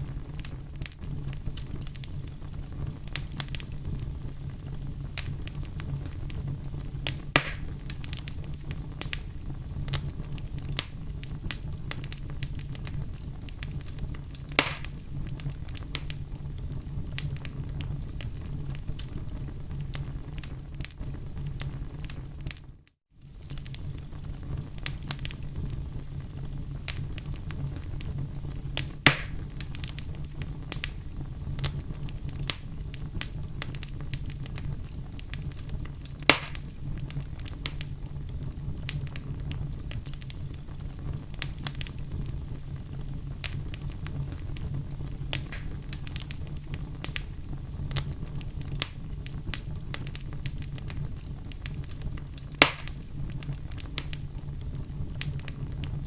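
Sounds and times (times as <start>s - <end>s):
campfire crackling: 0.0s - 56.0s
fire pops: 0.0s - 56.0s.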